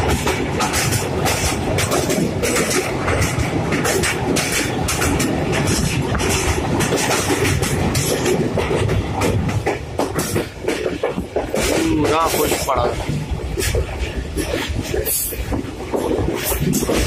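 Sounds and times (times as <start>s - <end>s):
train rumbling: 0.0s - 17.0s
wheels clattering over rails: 0.0s - 17.0s.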